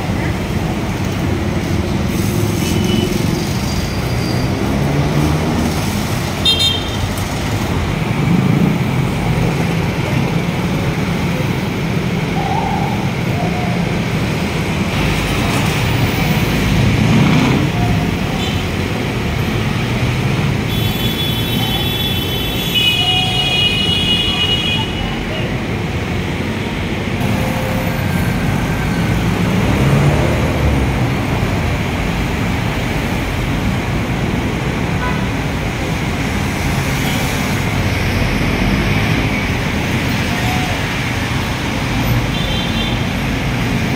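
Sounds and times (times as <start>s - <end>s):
city street traffic rumble: 0.0s - 43.9s.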